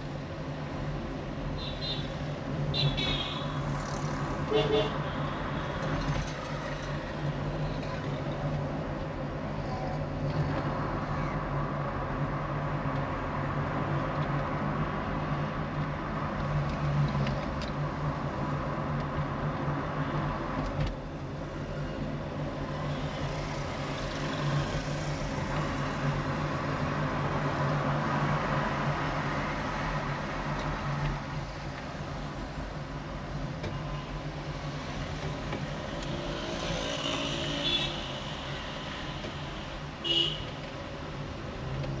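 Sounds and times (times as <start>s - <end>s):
street traffic noise: 0.0s - 42.0s.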